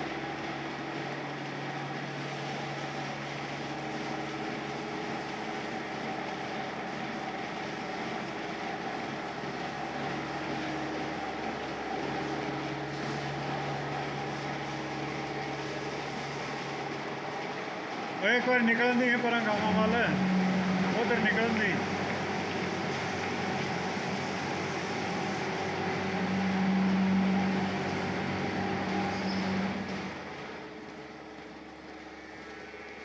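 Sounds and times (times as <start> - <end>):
machine humming: 0.0 - 33.0.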